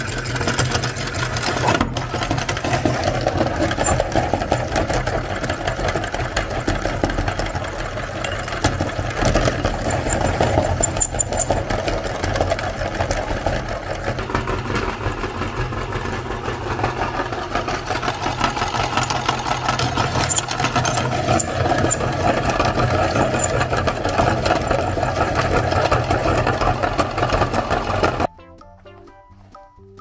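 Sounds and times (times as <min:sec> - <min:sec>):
meat grinder motor hum: 0:00.0 - 0:28.3.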